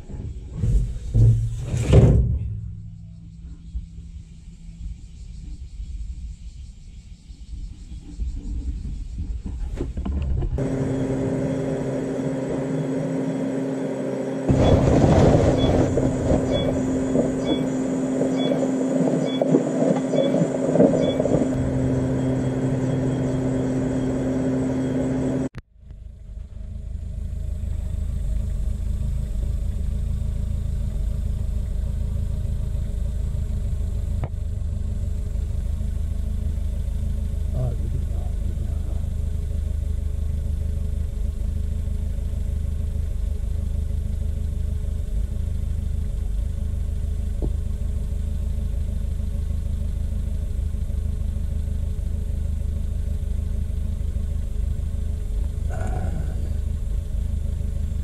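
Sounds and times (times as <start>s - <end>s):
truck engine idling: 10.6s - 58.0s.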